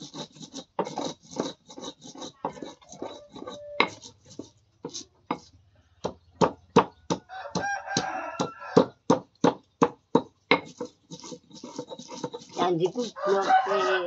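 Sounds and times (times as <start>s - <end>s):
stone pestle grinding in mortar: 0.0s - 14.0s.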